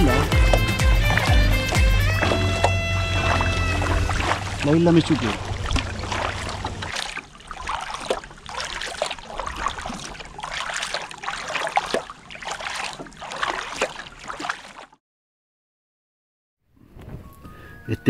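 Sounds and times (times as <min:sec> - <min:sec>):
paddle blades splashing: 0:00.0 - 0:15.0
water rushing along hull: 0:00.0 - 0:15.0.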